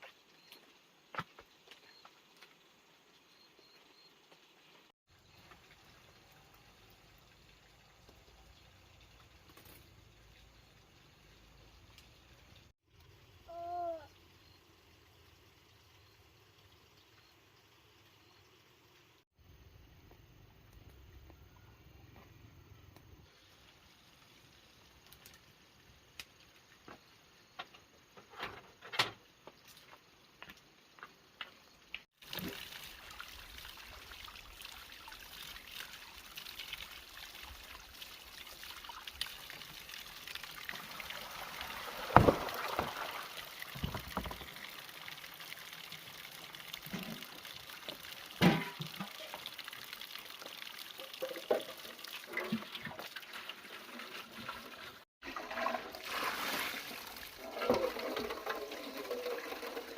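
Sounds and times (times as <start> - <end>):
water pouring and trickling: 0.0 - 19.3, 23.1 - 28.7, 29.3 - 59.9.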